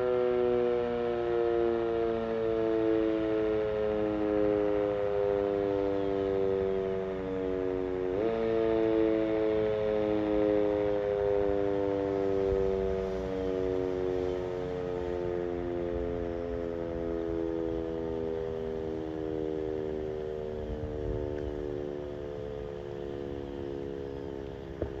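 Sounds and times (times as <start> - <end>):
warning siren winding down: 0.0 - 25.0.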